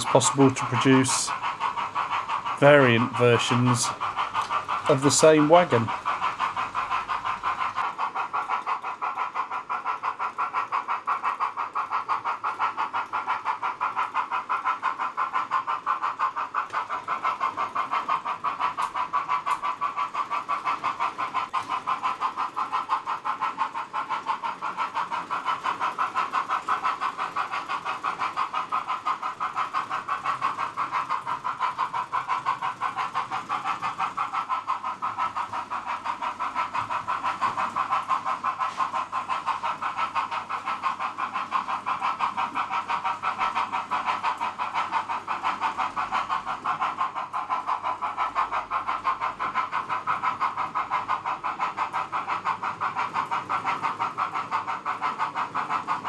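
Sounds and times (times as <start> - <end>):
model steam locomotive chuffing: 0.0 - 56.0.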